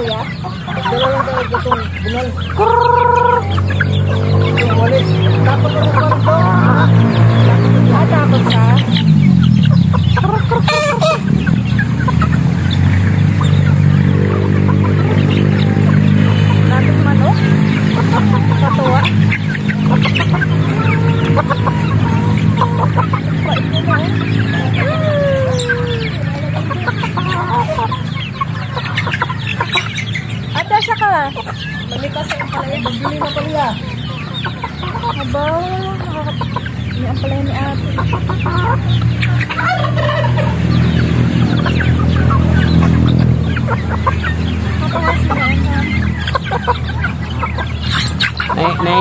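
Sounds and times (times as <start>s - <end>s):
chicks clucking and peeping: 0.0s - 49.0s.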